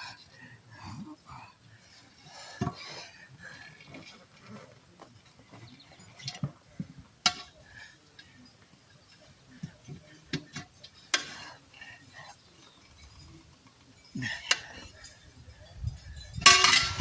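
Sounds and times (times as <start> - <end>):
tools clinking on steel rim: 2.2 - 17.0.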